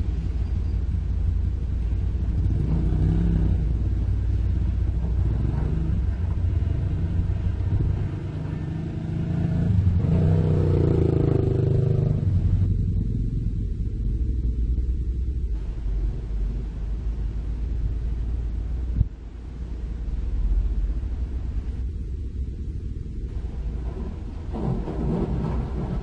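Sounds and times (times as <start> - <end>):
dump truck engine: 0.0 - 26.0.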